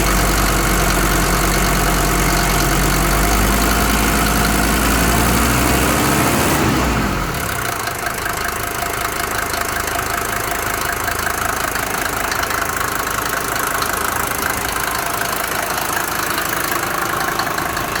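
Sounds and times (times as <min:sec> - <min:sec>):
diesel engine idling with knocking: 0:00.0 - 0:18.0.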